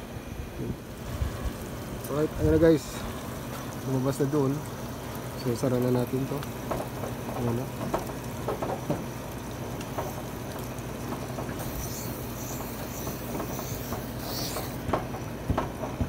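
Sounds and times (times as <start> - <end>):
water splattering down a wall: 1.0 - 16.0.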